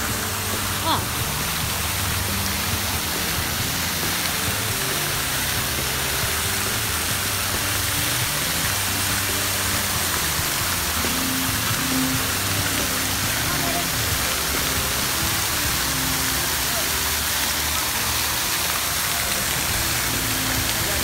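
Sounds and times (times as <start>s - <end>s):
fountain splashing into pool: 0.0s - 21.0s
music playing: 0.0s - 21.0s.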